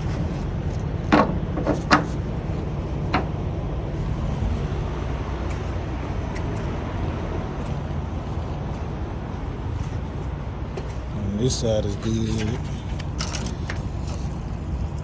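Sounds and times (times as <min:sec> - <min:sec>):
diesel fuelling rumble: 0:00.0 - 0:15.0.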